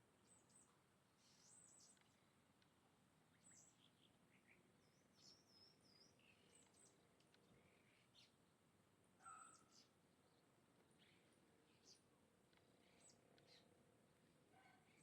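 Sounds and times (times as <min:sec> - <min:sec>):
low steady hiss: 0:00.0 - 0:15.0
birds chirping: 0:00.2 - 0:02.4, 0:03.3 - 0:08.5, 0:09.2 - 0:15.0.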